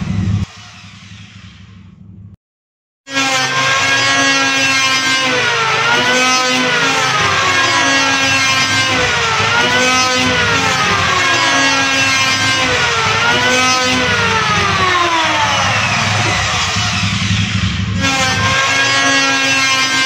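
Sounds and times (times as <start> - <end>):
electric planer motor whine: 3.1 - 20.0.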